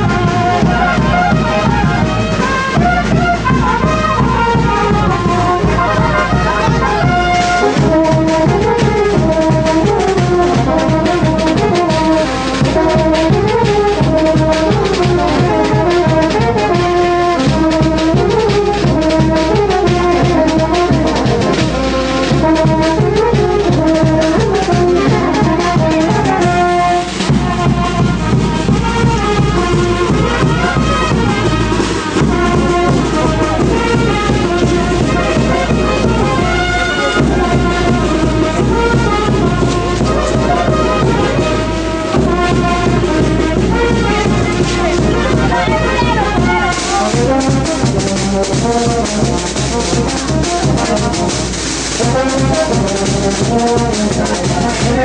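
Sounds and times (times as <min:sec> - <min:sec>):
brass band playing dance tune: 0:00.0 - 0:55.0.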